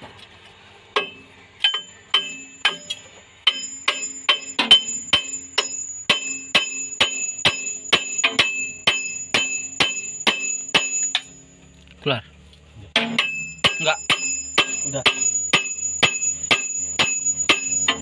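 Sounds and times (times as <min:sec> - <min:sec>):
thin high ring: 0:01.0 - 0:11.7, 0:13.0 - 0:18.0.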